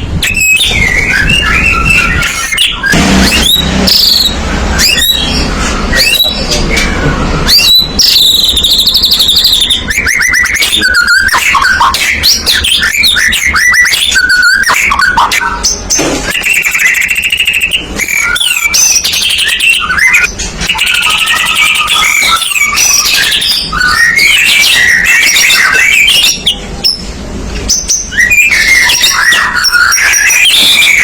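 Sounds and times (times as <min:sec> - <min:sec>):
songbird singing whistles and trills: 0:00.1 - 0:31.0.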